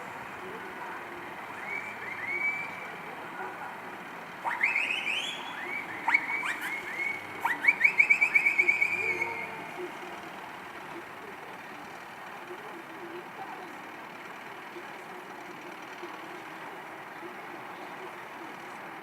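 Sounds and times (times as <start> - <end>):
low vehicle hum: 0.0 - 19.0.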